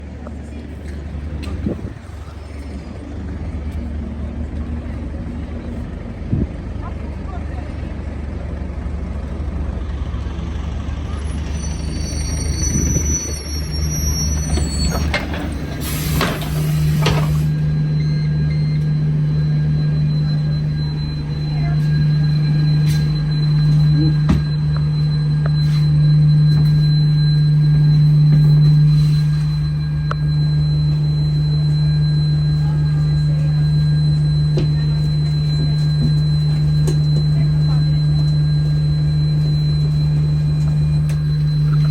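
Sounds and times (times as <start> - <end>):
bus diesel engine running: 0.0 - 41.9.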